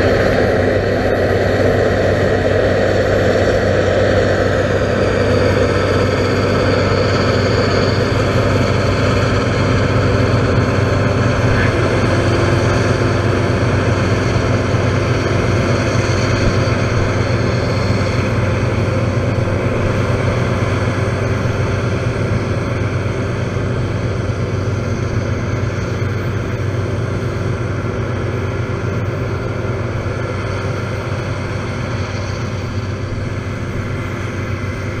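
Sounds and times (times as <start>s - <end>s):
heavy engine drone: 0.0s - 35.0s.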